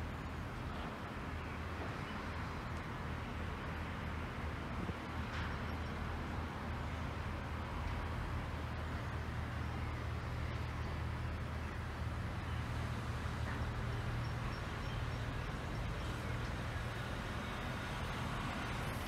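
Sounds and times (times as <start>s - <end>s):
diesel locomotive engine running: 2.9s - 19.0s.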